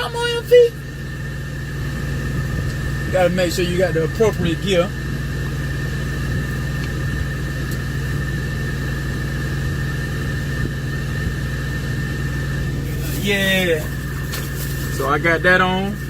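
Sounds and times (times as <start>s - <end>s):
faint high whine: 0.0s - 16.0s
truck engine idling: 0.0s - 16.0s.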